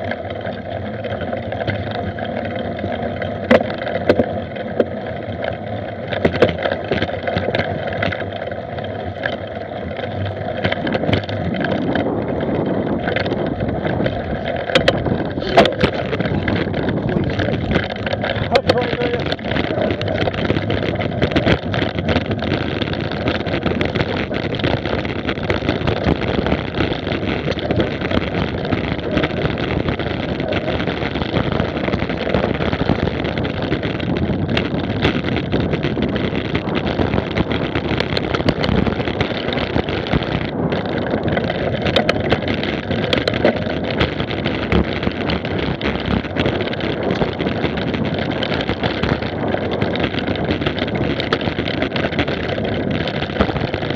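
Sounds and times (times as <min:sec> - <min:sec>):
bike rattling over bumps: 0:00.0 - 0:53.9
tyres rolling on rough ground: 0:00.0 - 0:53.9
wind rushing over microphone: 0:01.0 - 0:53.9.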